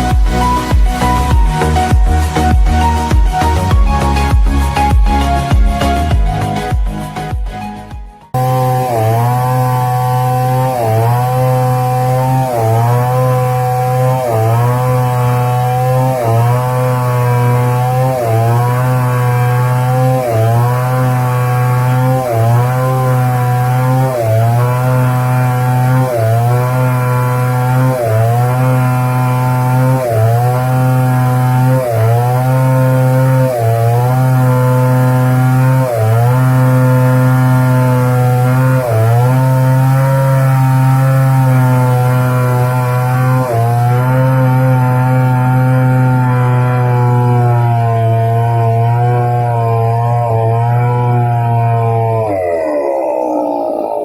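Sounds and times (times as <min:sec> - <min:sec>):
motorized wood saw cutting: 0:00.0 - 0:06.7, 0:08.4 - 0:54.0.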